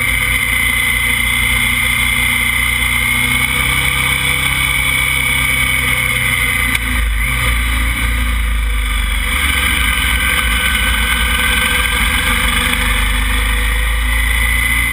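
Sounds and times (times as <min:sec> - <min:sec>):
motorcycle engine: 0:00.0 - 0:14.9.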